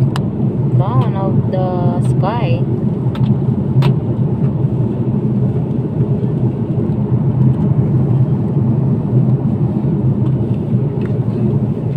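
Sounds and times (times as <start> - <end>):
airplane cabin rumble: 0.0 - 11.9.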